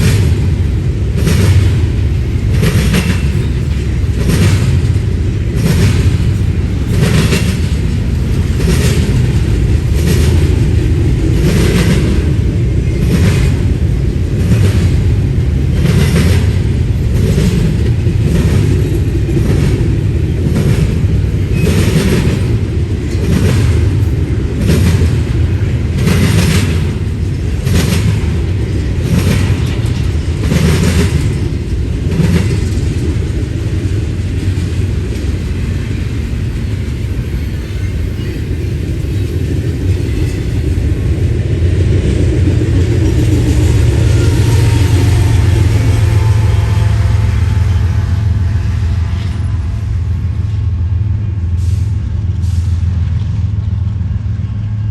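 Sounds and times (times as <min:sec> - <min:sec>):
wheels clicking over rail joints: 0:00.0 - 0:47.9
train rumbling past: 0:00.0 - 0:54.9.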